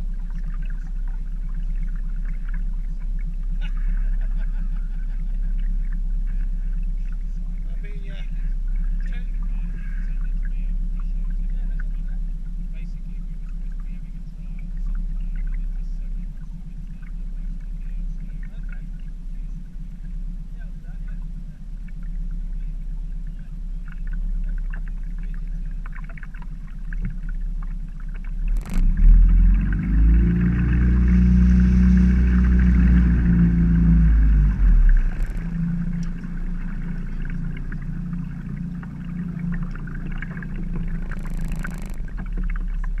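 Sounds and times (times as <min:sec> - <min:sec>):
outboard motor running: 0:00.0 - 0:43.0.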